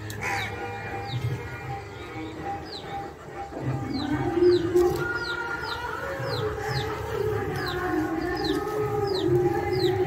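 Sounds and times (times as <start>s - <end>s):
low wavering bird calls: 0.0s - 10.0s.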